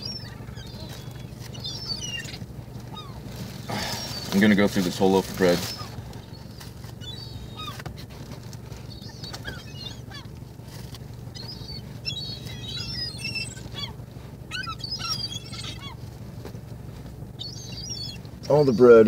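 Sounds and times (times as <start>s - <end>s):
seagulls squealing: 0.0s - 16.5s, 17.2s - 19.0s
low hum: 0.0s - 19.0s.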